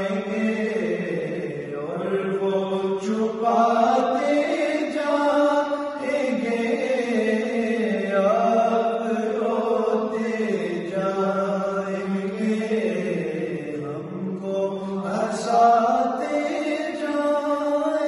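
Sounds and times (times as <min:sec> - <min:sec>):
men chanting unaccompanied: 0:00.0 - 0:18.0.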